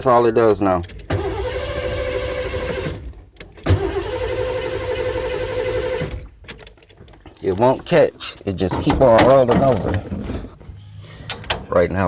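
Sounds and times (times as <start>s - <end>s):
van engine cranking: 0.0s - 12.0s.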